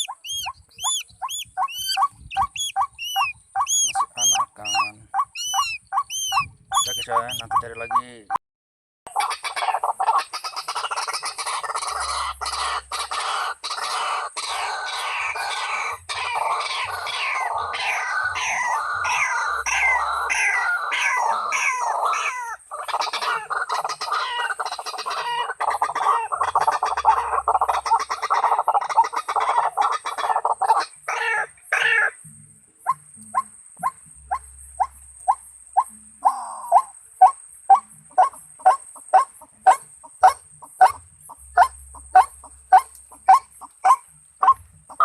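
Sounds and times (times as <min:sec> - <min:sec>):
waterhen croaking calls: 0:00.0 - 0:08.4, 0:09.1 - 0:32.2, 0:32.8 - 0:45.0.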